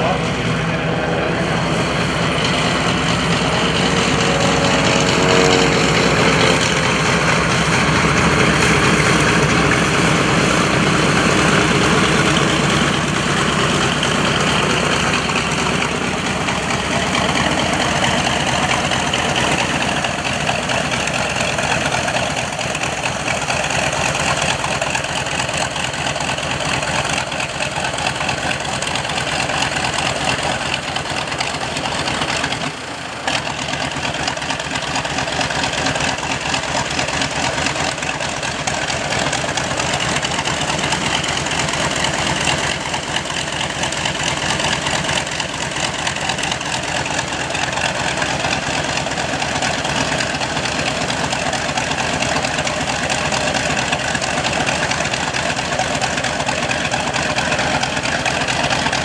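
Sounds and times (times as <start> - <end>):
light plane engine droning overhead: 0.0 - 59.0.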